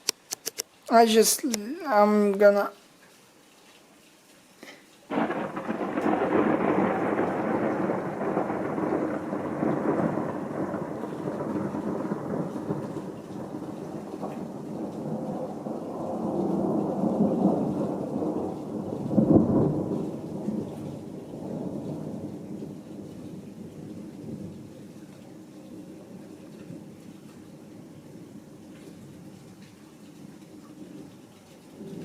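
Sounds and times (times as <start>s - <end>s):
heavy rain: 0.0s - 32.0s
thunder rumbling: 5.1s - 32.0s.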